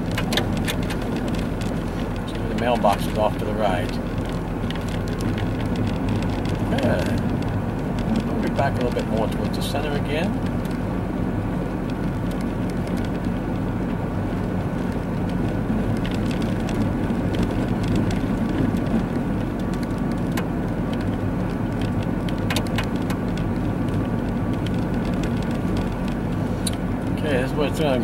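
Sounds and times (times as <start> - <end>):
car engine hum: 0.0 - 28.0
tyre and wind noise: 0.0 - 28.0.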